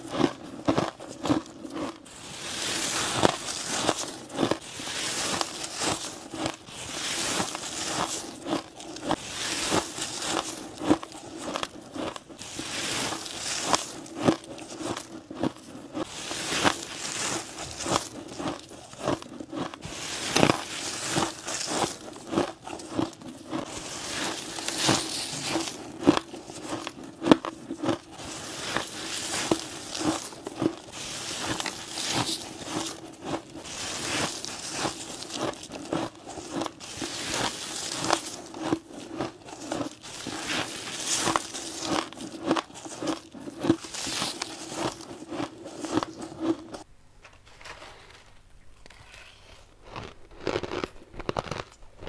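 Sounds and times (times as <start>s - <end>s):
crunching ice bites: 0.0s - 46.8s, 49.8s - 52.0s.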